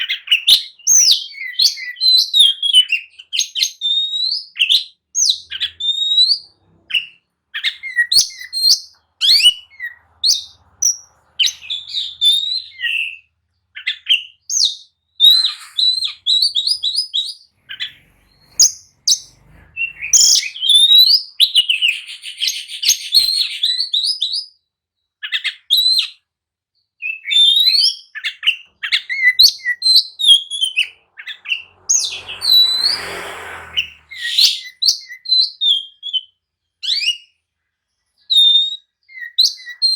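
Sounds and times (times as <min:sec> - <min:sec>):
bird singing whistled phrases: 0:00.0 - 0:24.6, 0:27.0 - 0:37.3, 0:38.2 - 0:39.9.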